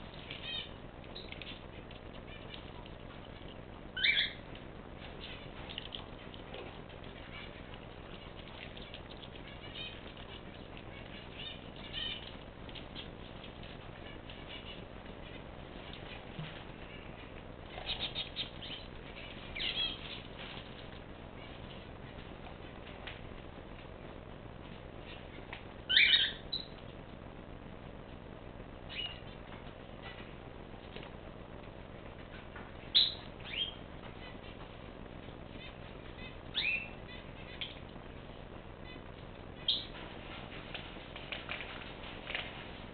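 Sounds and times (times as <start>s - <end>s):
small birds chirping: 0.0s - 23.2s, 24.6s - 27.0s, 28.8s - 31.0s, 31.9s - 42.6s
steady background hiss: 0.0s - 42.9s.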